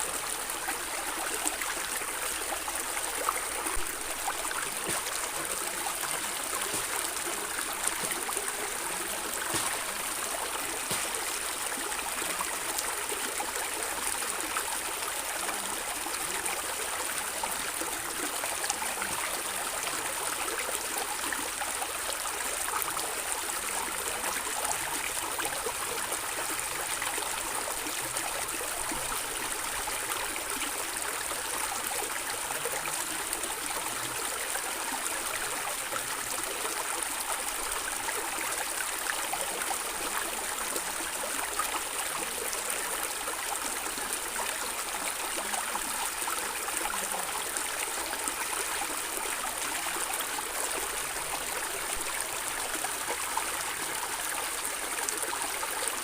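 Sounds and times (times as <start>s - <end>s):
stream gurgling over stones: 0.0s - 56.0s.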